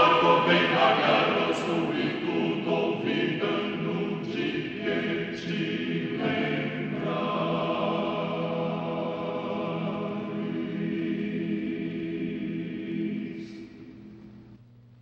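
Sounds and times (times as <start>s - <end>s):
choir singing chords: 0.0s - 14.2s.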